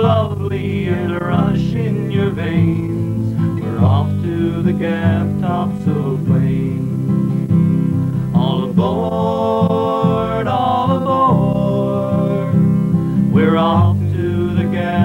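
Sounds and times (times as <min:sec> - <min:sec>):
person singing: 0:00.0 - 0:07.2, 0:08.3 - 0:15.0
acoustic guitar: 0:00.0 - 0:15.0.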